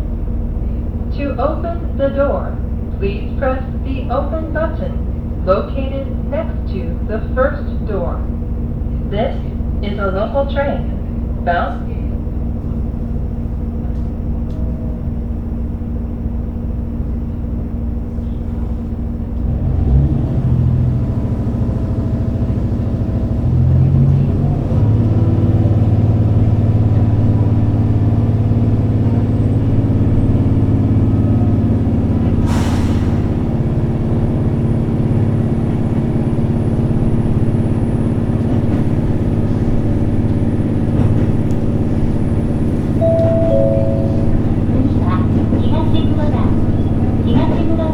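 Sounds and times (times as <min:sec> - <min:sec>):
train engine running: 0:00.0 - 0:47.9.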